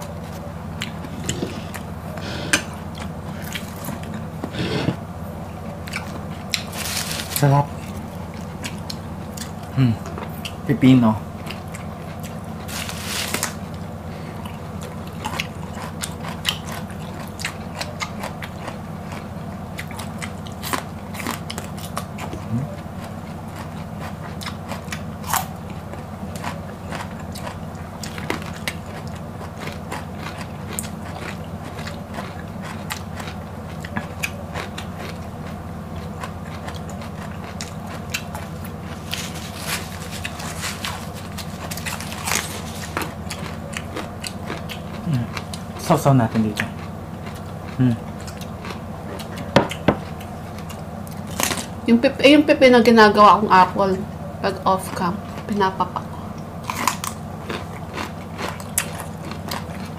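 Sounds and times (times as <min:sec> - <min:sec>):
people chewing cucumbers: 0:00.0 - 0:51.8, 0:54.1 - 0:59.9
steady low hum: 0:00.0 - 0:59.9.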